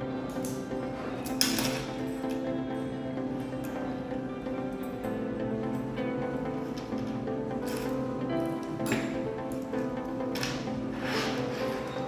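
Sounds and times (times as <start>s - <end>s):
background music with sustained notes: 0.0s - 12.0s.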